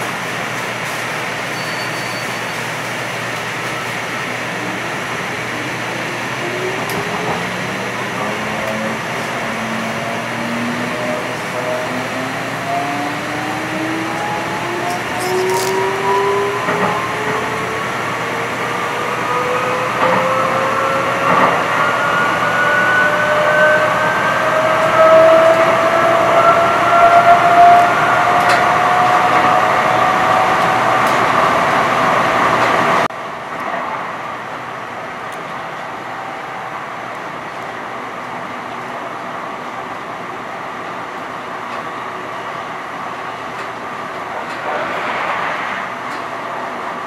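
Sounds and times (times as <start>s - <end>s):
wheels rumbling on rail: 0.0s - 47.0s.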